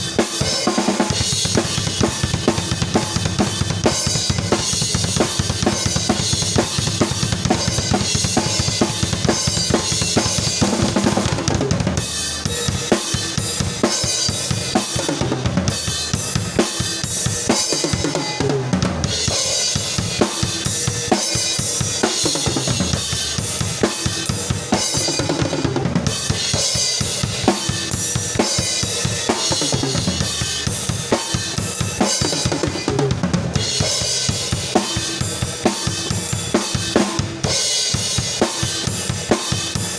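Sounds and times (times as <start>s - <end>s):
cymbal and hi-hat strikes: 0.0s - 10.9s, 11.8s - 25.2s, 26.0s - 32.8s, 33.5s - 39.9s
bass drum and snare beat: 0.0s - 39.9s.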